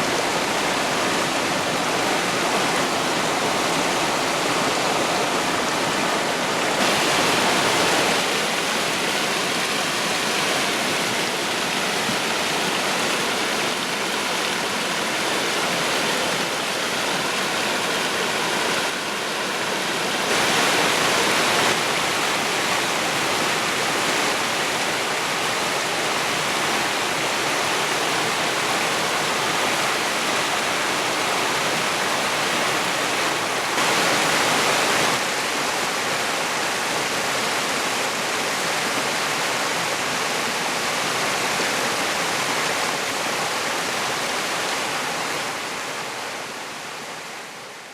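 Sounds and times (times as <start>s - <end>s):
creek water rushing over rocks: 0.0s - 47.9s.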